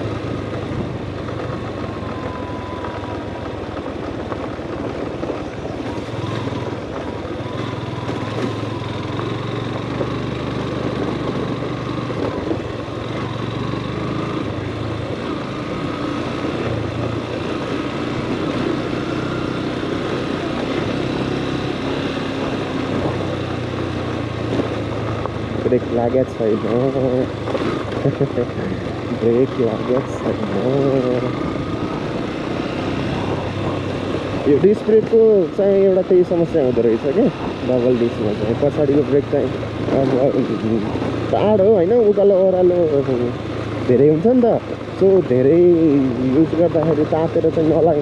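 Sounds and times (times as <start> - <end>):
tyres rattling over loose gravel: 0.0 - 13.4, 22.4 - 48.0
motorcycle engine running: 0.0 - 48.0.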